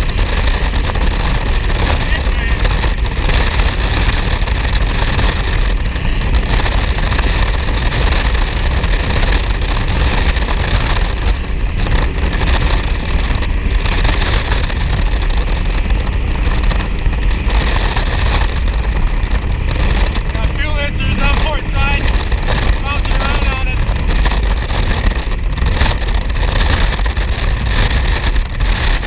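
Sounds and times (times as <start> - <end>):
powerboat engine drone: 0.0 - 29.0
wind noise: 0.0 - 29.0.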